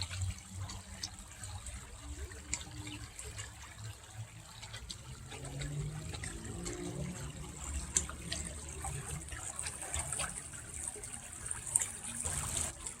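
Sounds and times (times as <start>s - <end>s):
brook burbling: 0.0s - 13.0s
water splashes and trickles: 0.0s - 13.0s.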